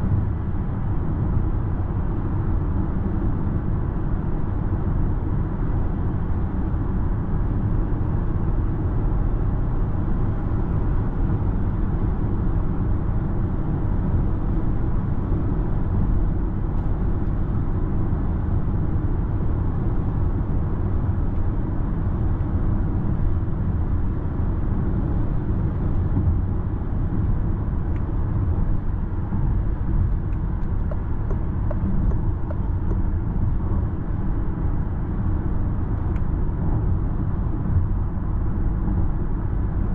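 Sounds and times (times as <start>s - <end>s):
road and wind noise in car cabin: 0.0s - 39.9s.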